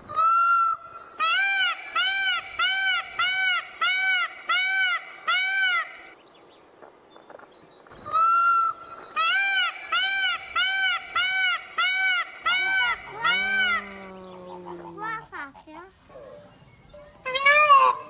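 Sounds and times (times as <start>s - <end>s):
peacock calling: 0.0s - 6.2s, 8.0s - 15.6s, 16.2s - 18.0s.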